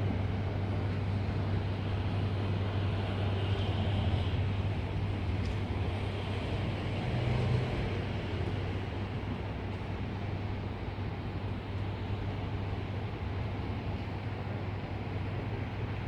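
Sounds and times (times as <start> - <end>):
train rumbling through station: 0.0 - 16.0.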